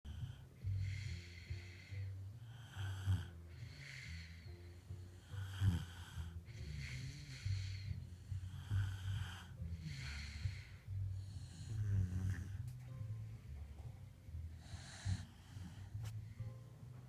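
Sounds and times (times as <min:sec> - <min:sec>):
dog snoring: 0:00.1 - 0:13.2, 0:14.5 - 0:16.1.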